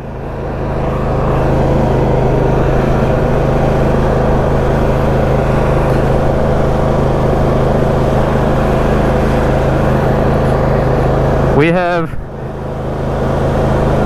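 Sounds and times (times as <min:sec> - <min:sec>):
lawn tractor engine running: 0:00.0 - 0:14.0.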